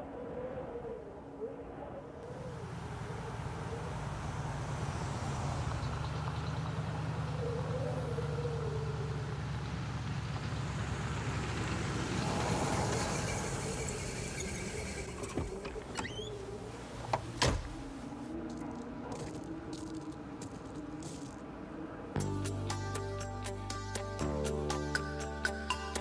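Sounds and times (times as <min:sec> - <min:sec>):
vehicle engine rumble: 0:02.2 - 0:25.6.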